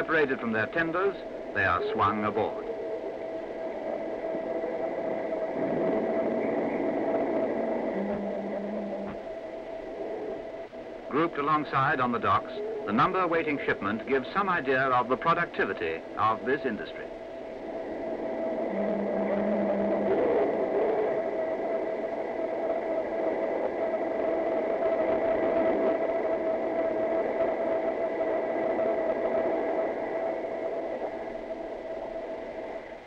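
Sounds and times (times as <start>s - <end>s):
machinery whirring and humming: 0.0s - 33.0s.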